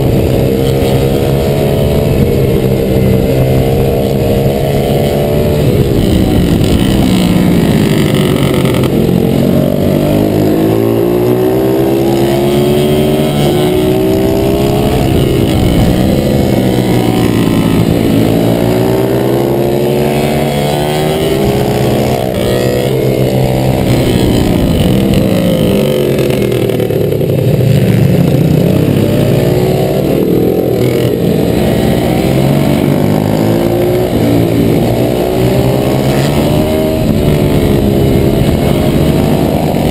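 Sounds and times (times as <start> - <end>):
motorbike engine revving hard: 0.0 - 39.9.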